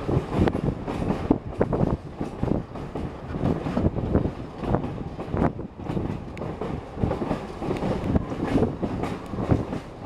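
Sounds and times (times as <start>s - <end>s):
low rumble of train running gear: 0.0s - 10.0s
train wheels clicking over rail joints: 0.0s - 10.0s.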